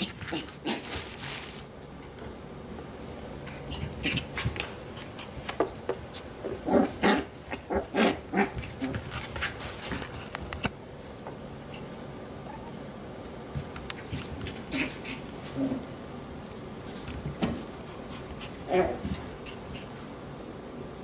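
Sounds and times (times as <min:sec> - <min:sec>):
scuffling and small knocks: 0:00.0 - 0:12.0, 0:13.2 - 0:19.9.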